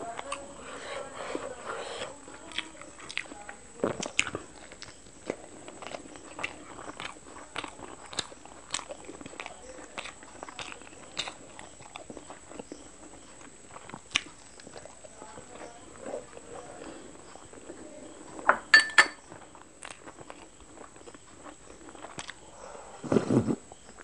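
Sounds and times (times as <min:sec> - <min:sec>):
chewing and wet mouth sounds: 0:00.0 - 0:18.5, 0:19.2 - 0:24.0.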